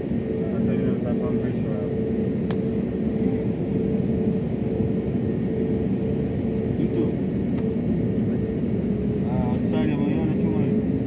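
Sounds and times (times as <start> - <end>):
jet engines droning in cabin: 0.0 - 11.0.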